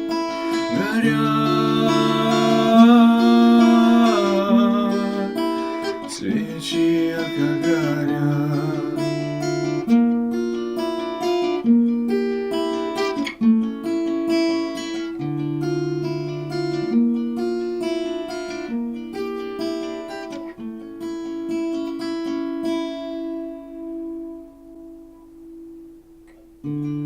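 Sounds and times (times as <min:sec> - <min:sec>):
acoustic guitar chords: 0:00.0 - 0:27.0.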